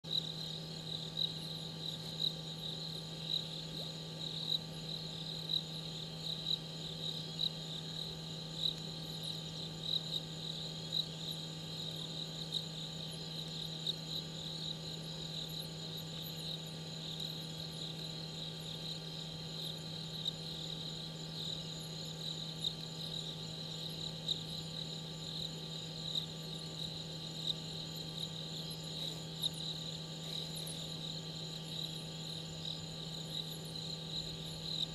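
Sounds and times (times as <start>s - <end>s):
insects chirping in high trill: 0.1s - 34.9s.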